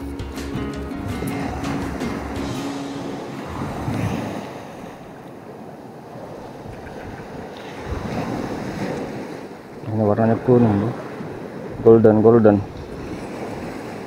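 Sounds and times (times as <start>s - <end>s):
sea waves washing on shore: 0.0s - 14.0s
wind buffeting microphone: 0.6s - 14.0s.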